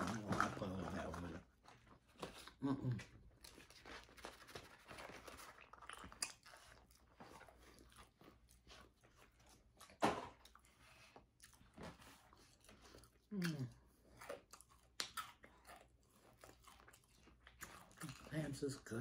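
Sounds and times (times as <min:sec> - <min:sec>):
chewing with crunches: 0:00.0 - 0:19.0.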